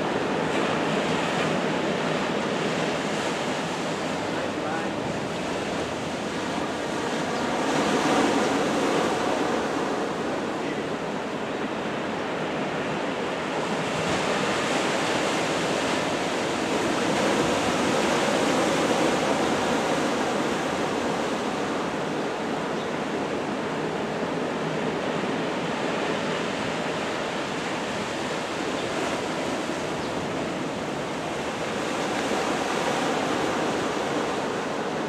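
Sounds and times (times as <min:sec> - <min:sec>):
rough sea: 0:00.0 - 0:35.0
strong wind: 0:00.0 - 0:35.0.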